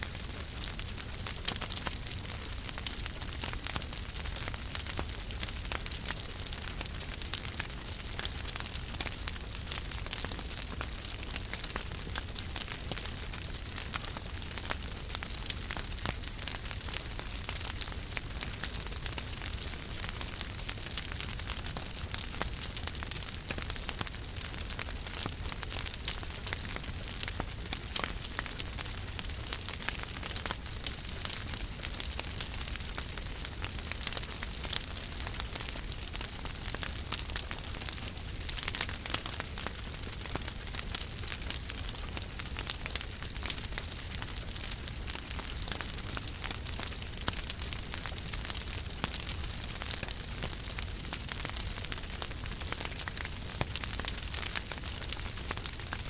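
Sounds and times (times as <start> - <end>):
fire hiss and low rumble: 0.0 - 56.0
wood fire crackling: 0.0 - 56.0.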